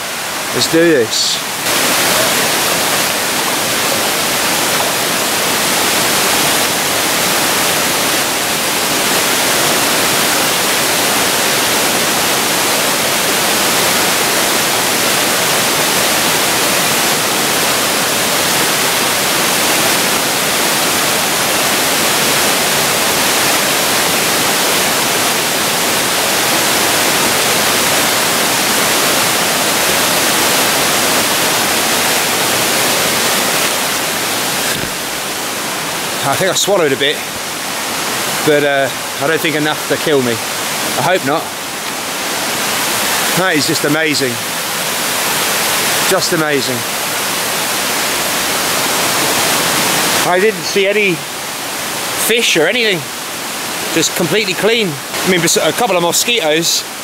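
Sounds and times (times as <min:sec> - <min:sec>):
small waterfall rushing into pool: 0:00.0 - 0:57.0.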